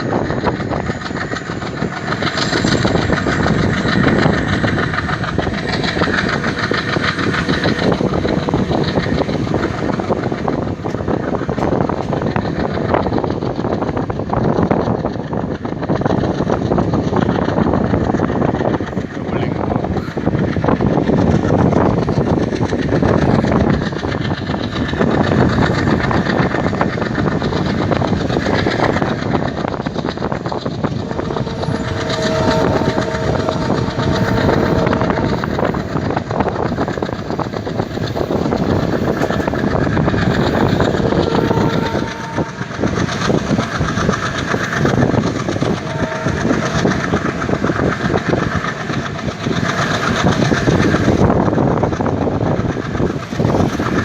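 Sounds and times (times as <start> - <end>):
diesel locomotive chugging: 0.0 - 54.0.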